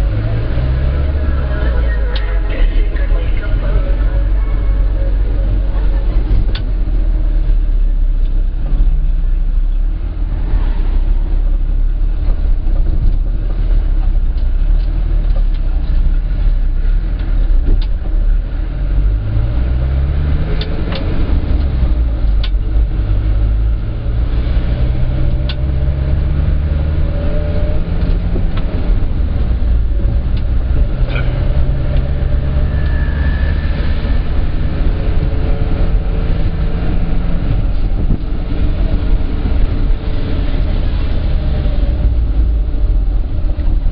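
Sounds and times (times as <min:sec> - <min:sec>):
minibus engine running: 0:00.0 - 0:43.9
road rumble: 0:00.0 - 0:43.9.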